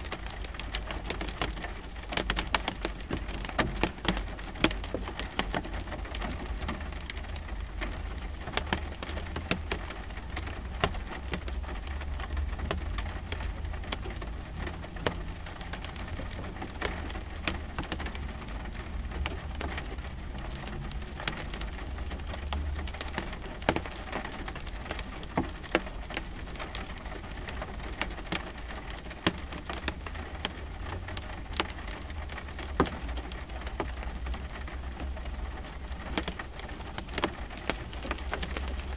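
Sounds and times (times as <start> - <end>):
rain hiss: 0.0 - 38.9
raindrops ticking on windshield: 0.0 - 38.9.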